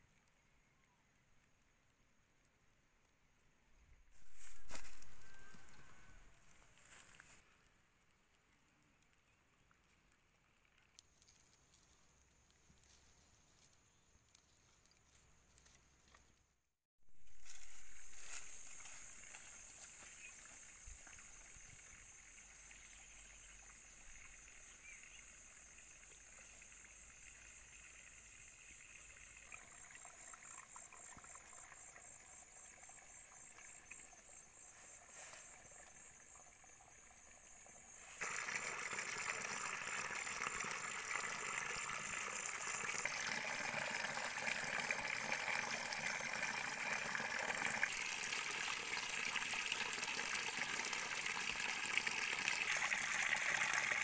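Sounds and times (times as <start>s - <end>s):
stream water trickling: 4.2s - 7.4s, 8.6s - 12.0s, 17.2s - 54.0s.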